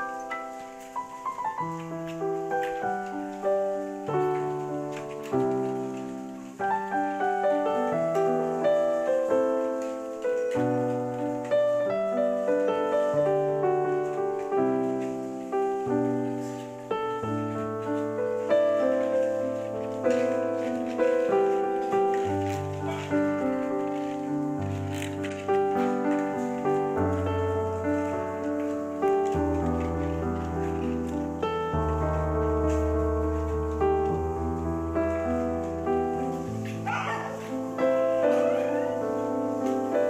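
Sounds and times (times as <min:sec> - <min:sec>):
piano music: 0:00.0 - 0:40.0.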